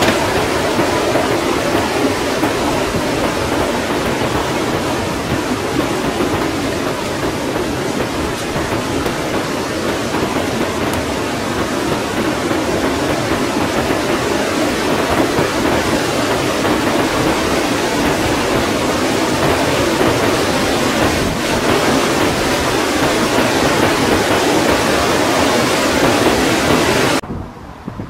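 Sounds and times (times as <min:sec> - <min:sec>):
debris flow rushing rumble: 0:00.0 - 0:27.2.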